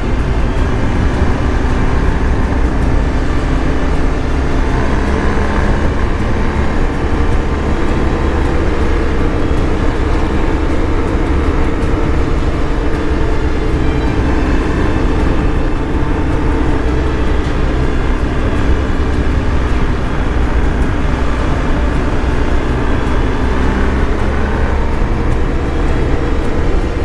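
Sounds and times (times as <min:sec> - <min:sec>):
motorcycle engine cruising: 0:00.0 - 0:27.0
wind and road rush: 0:00.0 - 0:27.0.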